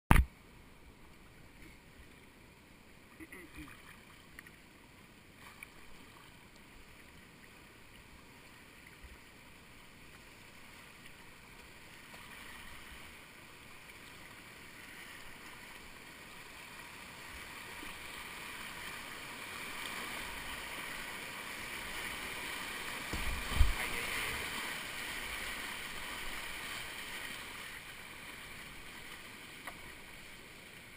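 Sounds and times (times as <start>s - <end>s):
rushing whitewater: 0.9s - 30.9s.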